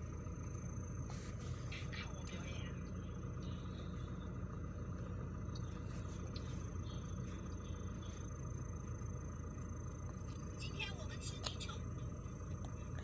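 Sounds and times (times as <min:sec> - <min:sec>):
faint high whine: 0:00.0 - 0:13.0
low rumble: 0:00.0 - 0:13.0.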